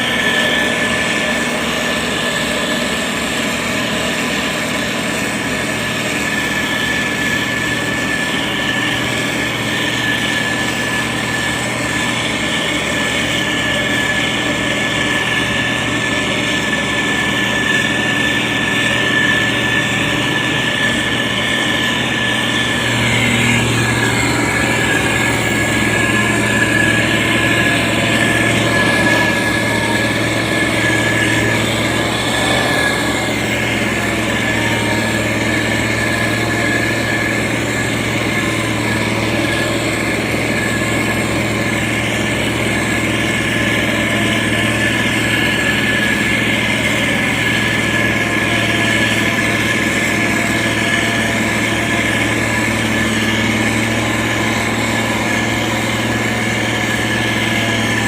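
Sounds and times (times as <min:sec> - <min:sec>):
heavy machine engine running: 0:00.0 - 0:58.0
high-pitched whine: 0:00.0 - 0:58.0.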